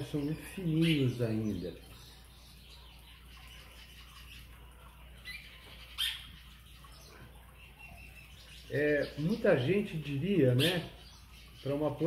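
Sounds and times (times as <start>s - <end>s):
faint bird chirps: 0.0s - 12.0s
low steady hum: 0.0s - 12.0s.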